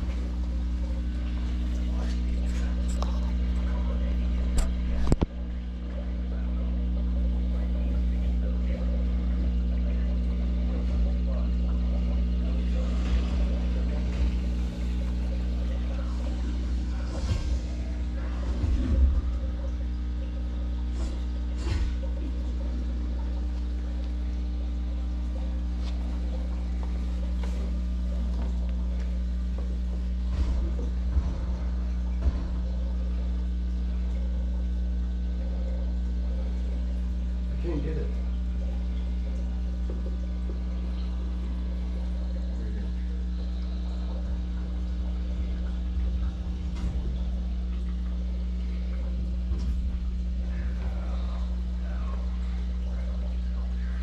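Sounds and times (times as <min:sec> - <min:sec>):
aquarium pump humming: 0:00.0 - 0:54.0
water bubbling: 0:00.0 - 0:54.0.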